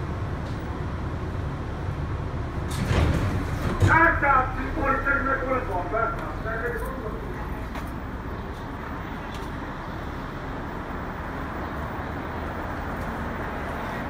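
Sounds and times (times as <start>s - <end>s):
idling subway train hum: 0.0s - 14.0s.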